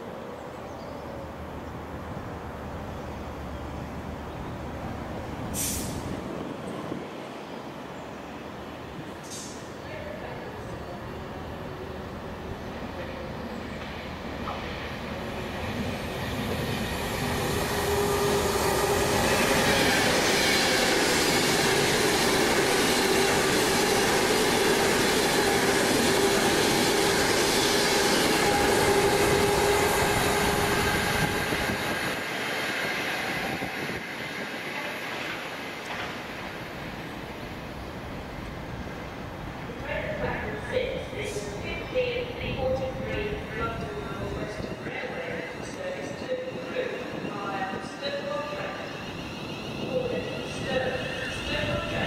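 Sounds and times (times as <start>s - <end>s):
train wheels rumbling on rail: 8.6s - 52.0s.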